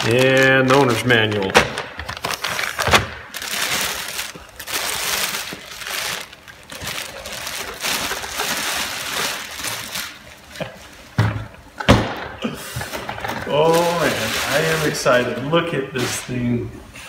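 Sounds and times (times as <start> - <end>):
packaging rustling and crinkling: 0.0 - 11.0, 12.8 - 16.5.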